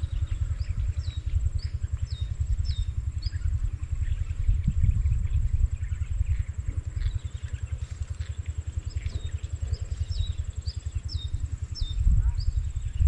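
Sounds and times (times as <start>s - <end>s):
bird calling: 0.0s - 13.0s
low pulsing rumble: 0.0s - 13.0s.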